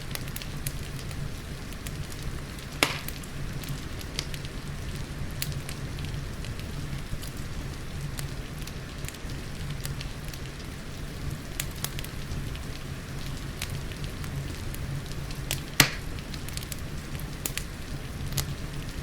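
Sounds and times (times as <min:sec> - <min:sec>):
rain hiss: 0:00.0 - 0:19.0
wood fire crackling and popping: 0:00.0 - 0:19.0.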